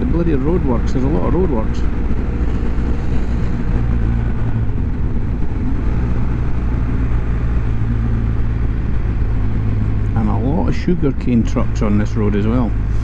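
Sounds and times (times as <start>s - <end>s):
motorcycle engine cruising: 0.0s - 13.0s
road and wind noise: 0.0s - 13.0s.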